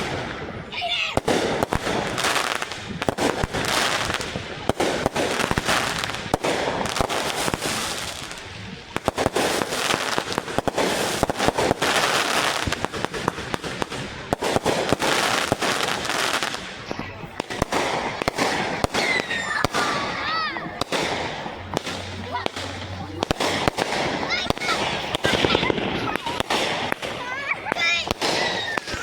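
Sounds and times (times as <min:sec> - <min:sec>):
fireworks cracking: 0:00.0 - 0:29.0.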